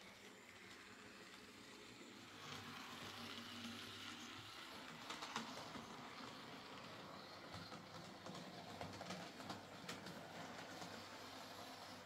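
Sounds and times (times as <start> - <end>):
model train motor whir: 0.0 - 12.0.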